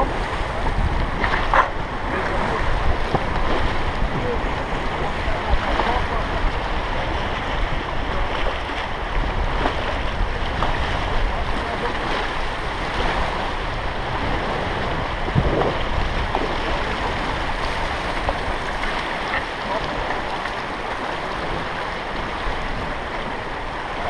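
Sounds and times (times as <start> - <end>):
river water rushing and splashing: 0.0 - 24.0
wind buffeting the microphone: 0.0 - 24.0.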